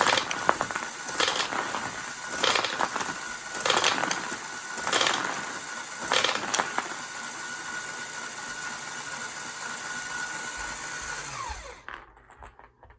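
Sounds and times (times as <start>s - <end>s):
toy gun motor whirring: 0.0s - 12.0s.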